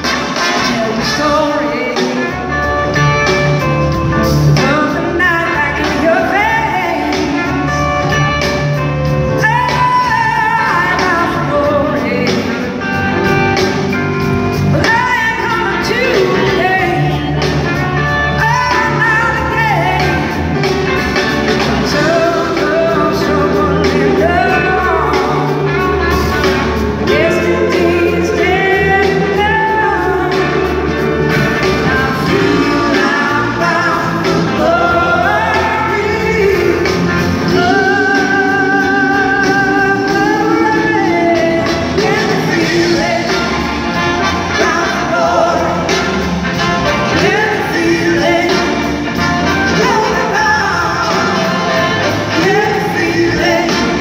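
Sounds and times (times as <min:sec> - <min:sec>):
live blues-rock band: 0:00.0 - 0:54.0
woman singing: 0:00.2 - 0:03.6, 0:04.2 - 0:46.2, 0:46.8 - 0:54.0.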